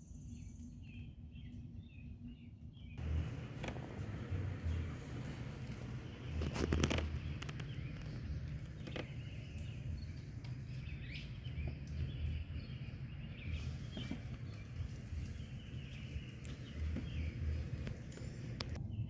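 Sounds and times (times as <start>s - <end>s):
low uneven rumble: 3.0s - 18.8s.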